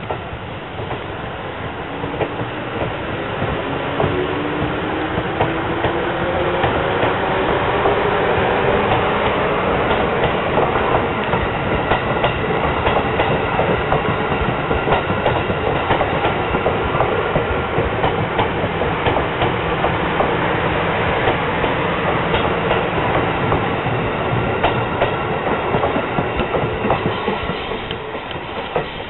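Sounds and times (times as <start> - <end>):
train wheels clacking over joints: 2.0 - 20.4, 21.2 - 29.0.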